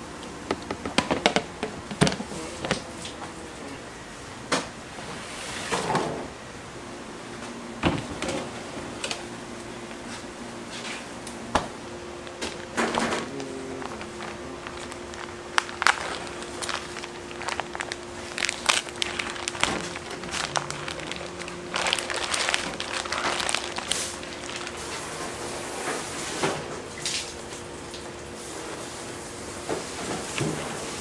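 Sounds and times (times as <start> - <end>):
steady hum: 0.0 - 29.6.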